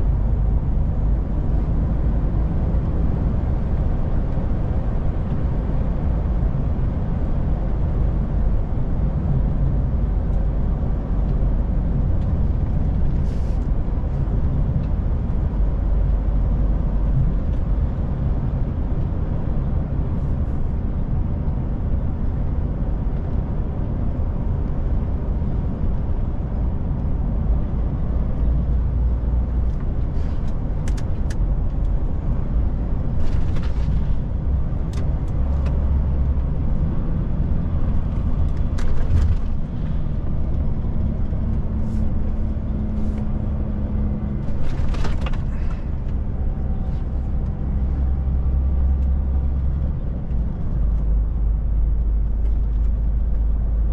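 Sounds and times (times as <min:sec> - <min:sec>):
truck diesel engine drone: 0:00.0 - 0:53.9.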